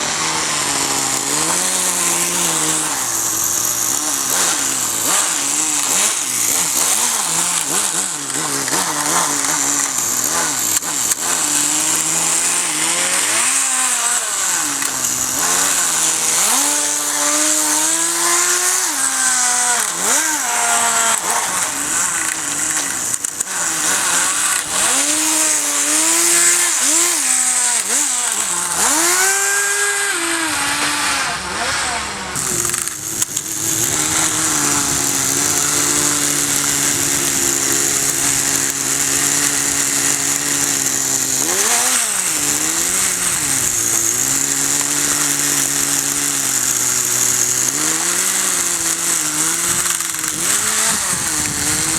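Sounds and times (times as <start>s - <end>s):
model engine buzzing: 0.0s - 51.9s.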